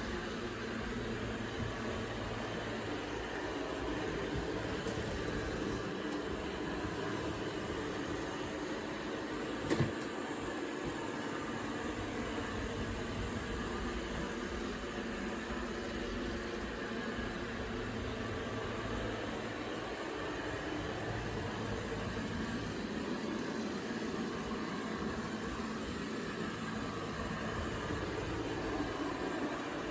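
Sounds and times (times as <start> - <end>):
robot vacuum cleaner humming: 0.0 - 29.9.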